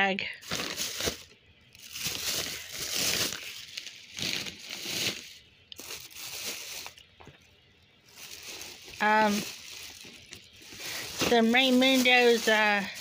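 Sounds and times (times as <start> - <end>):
plastic bags crinkling: 0.4 - 13.0.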